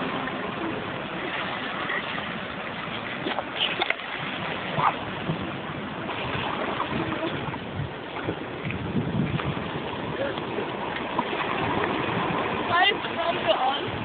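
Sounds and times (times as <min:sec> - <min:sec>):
surf washing: 0:00.0 - 0:14.0
wind noise: 0:00.0 - 0:14.0.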